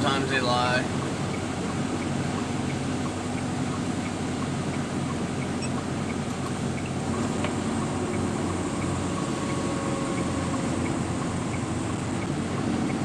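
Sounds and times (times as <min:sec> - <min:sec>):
diesel truck engine running: 0:00.0 - 0:13.0
road noise: 0:00.0 - 0:13.0.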